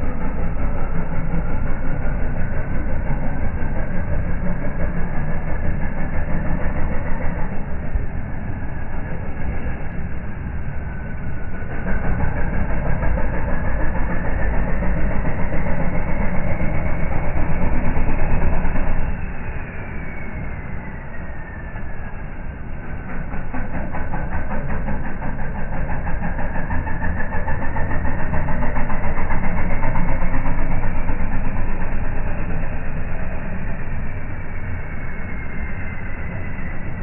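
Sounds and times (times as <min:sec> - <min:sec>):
drivetrain whine: 0:00.0 - 0:37.0
truck engine rumbling under load: 0:00.0 - 0:37.0.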